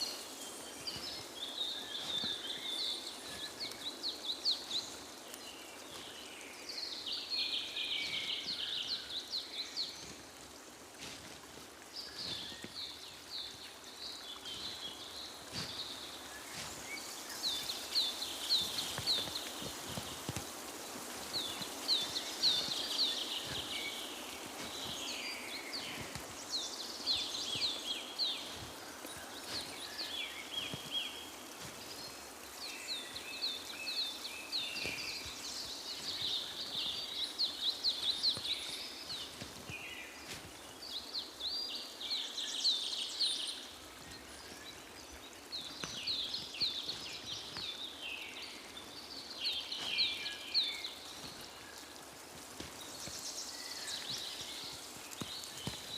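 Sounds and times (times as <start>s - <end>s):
songbirds chirping and trilling: 0.0s - 55.9s
steady background hiss: 0.0s - 55.9s.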